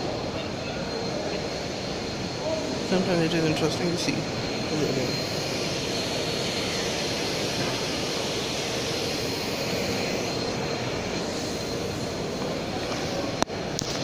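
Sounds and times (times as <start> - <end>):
faint high whine: 0.0 - 14.0
rushing background noise: 0.0 - 14.0.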